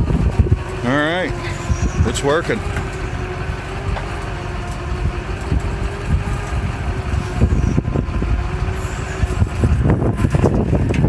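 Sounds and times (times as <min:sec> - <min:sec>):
electric winch whining: 0:00.0 - 0:11.0.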